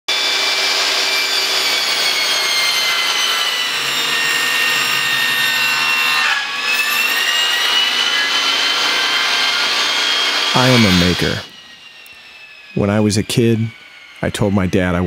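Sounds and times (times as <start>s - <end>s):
table saw cutting plywood: 0.1s - 15.0s.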